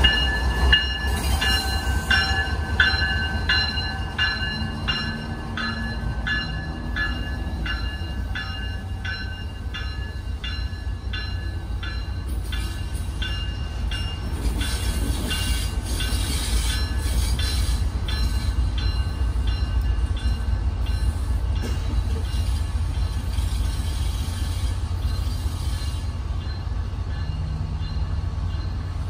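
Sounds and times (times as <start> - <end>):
diesel locomotive engine rumble: 0.0 - 29.0.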